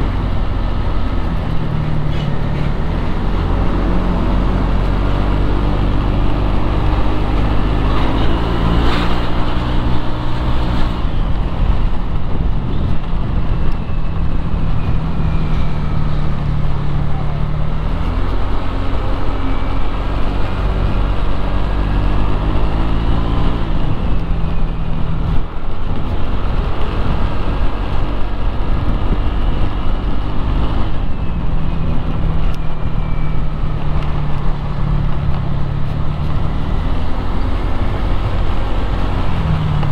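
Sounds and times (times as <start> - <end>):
loud low road rumble: 0.0 - 39.9
motorcycle engine hum: 0.0 - 39.9.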